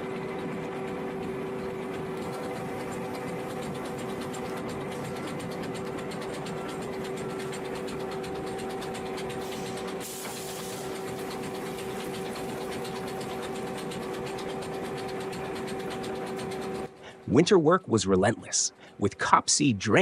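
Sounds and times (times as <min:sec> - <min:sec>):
machinery humming and clattering: 0:00.0 - 0:20.0.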